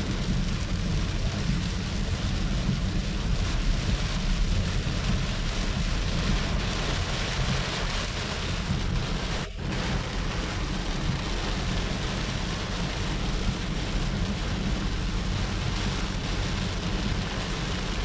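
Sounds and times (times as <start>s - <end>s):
heavy rain on car roof: 0.0s - 18.0s
low road rumble: 0.0s - 18.0s.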